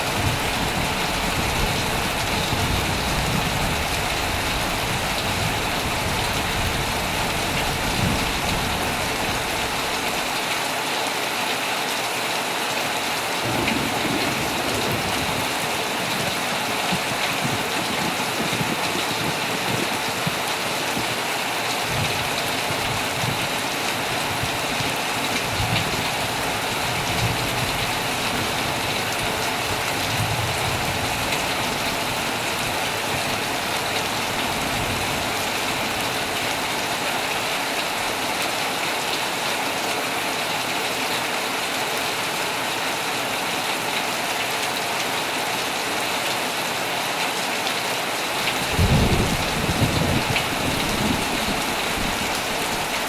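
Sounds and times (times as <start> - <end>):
heavy rain on a tent: 0.0 - 53.0.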